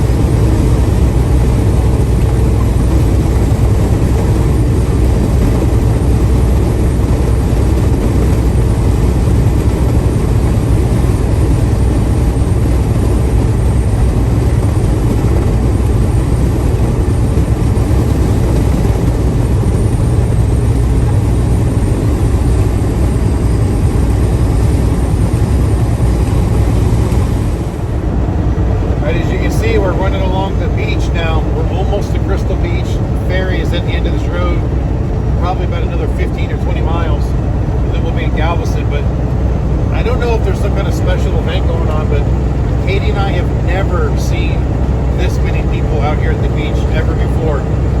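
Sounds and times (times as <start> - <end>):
vehicle engine and road noise: 0.0 - 48.0.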